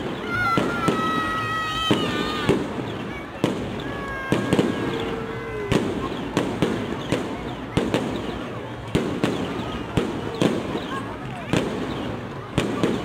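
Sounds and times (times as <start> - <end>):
crowd hubbub: 0.0 - 13.0
firework bangs: 0.0 - 13.0
firework whistling: 0.0 - 13.0.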